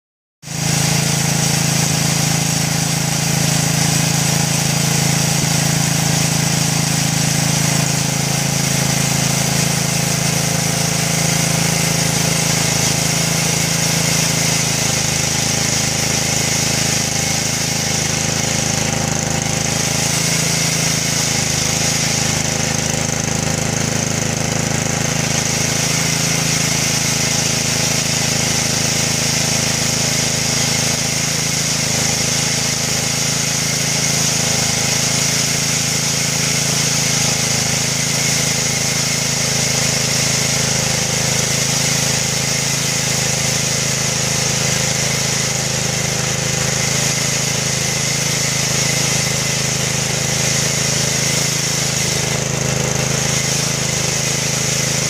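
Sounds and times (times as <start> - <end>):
band saw cutting log: 0.4 - 55.0
lawn mower engine running: 0.4 - 55.0.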